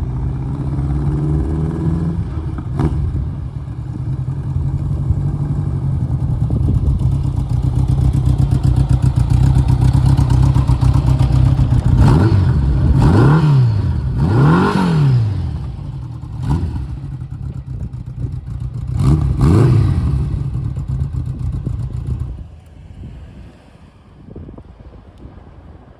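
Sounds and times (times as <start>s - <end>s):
motorcycle engine revving: 0.0s - 22.7s.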